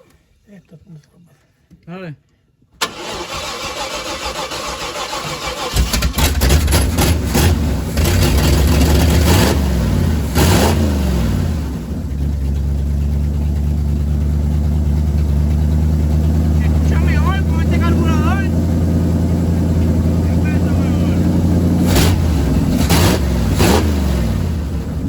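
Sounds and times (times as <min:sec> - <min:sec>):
engine cranking on starter: 0:02.8 - 0:09.5, 0:11.6 - 0:25.0
engine revving and idling: 0:03.0 - 0:25.0.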